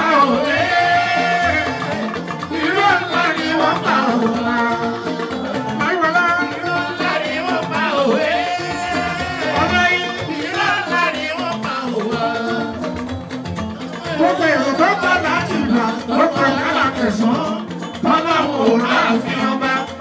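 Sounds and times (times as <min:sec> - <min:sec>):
man singing into microphone: 0:00.0 - 0:13.0, 0:13.8 - 0:20.0
electric guitars: 0:00.0 - 0:20.0
percussion: 0:00.0 - 0:20.0.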